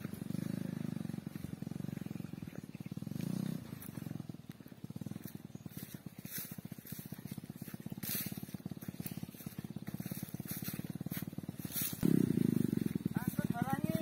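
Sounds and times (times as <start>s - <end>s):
motorcycle engine puttering: 0.0s - 14.0s.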